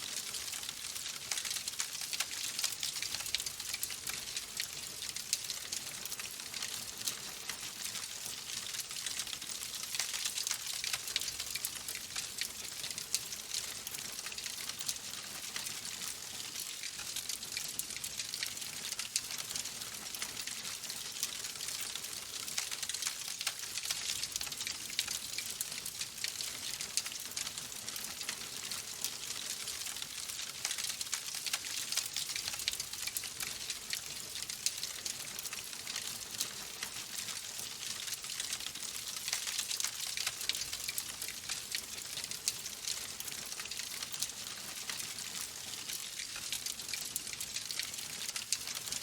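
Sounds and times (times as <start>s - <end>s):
logs crackling in fireplace: 0.1s - 49.0s.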